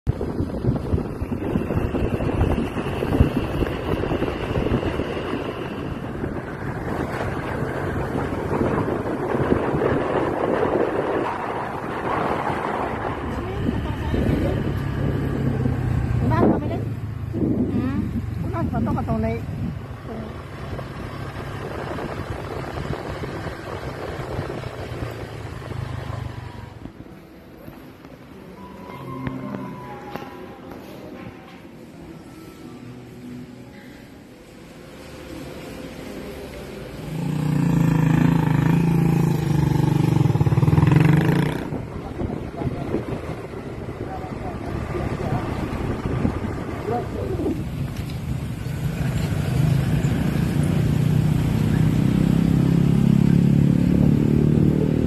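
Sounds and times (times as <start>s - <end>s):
road noise: 0.0s - 55.0s
vehicle engine hum: 0.0s - 55.0s
wind buffeting microphone: 0.1s - 27.0s, 37.8s - 55.0s.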